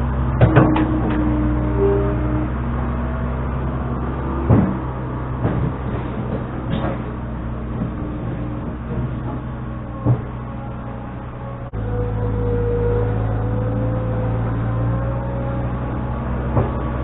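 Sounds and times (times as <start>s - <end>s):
engine running steadily: 0.0s - 17.0s
machinery clunks: 0.0s - 17.0s.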